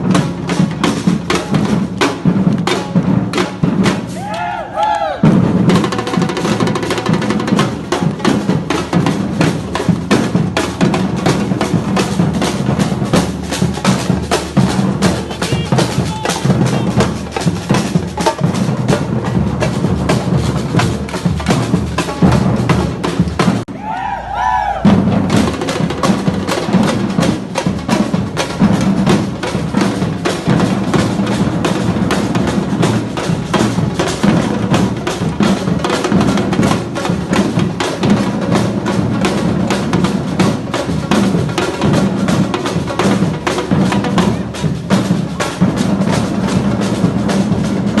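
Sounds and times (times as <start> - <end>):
samba drum band playing: 0.0 - 23.9, 24.7 - 48.0.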